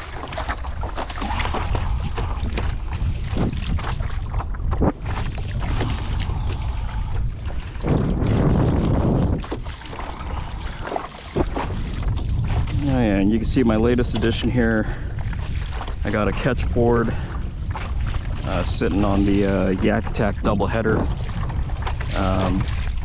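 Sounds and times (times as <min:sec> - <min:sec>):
water splashing against hull: 0:00.0 - 0:23.0
wind buffeting microphone: 0:00.0 - 0:23.0.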